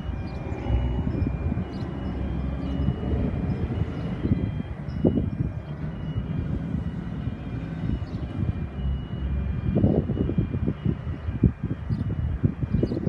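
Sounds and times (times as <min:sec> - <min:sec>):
heavy low rumble: 0:00.0 - 0:13.0
level crossing warning bells: 0:00.0 - 0:13.0.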